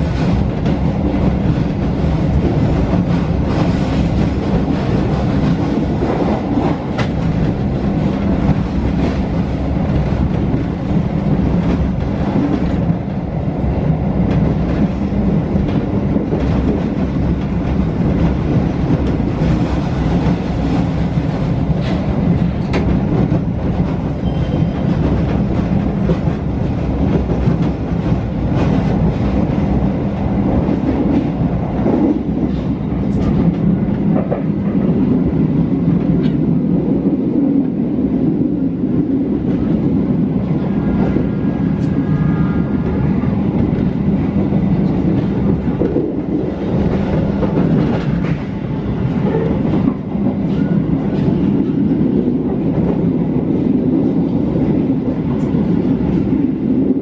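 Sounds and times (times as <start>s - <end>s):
train running on rails: 0.0s - 57.0s.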